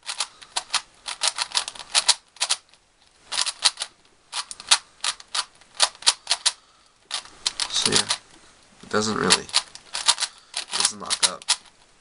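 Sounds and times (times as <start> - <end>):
puzzle cube layers clacking: 0.0 - 8.2, 8.8 - 11.9.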